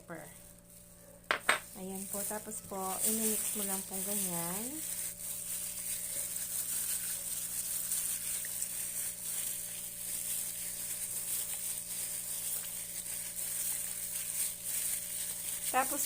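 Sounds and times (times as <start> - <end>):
soft wet clicks of mixing: 1.8 - 16.0.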